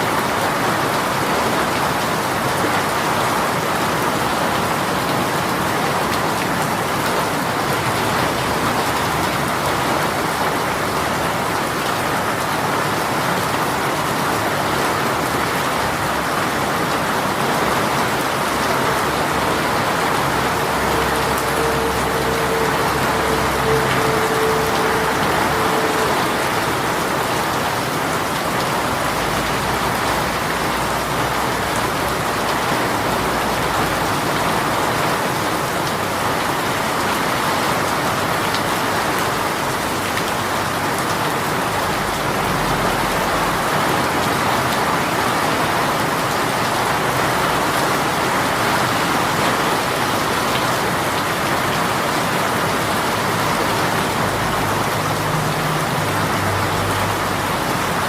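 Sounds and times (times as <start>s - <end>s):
rain hissing on surfaces: 0.0s - 58.0s.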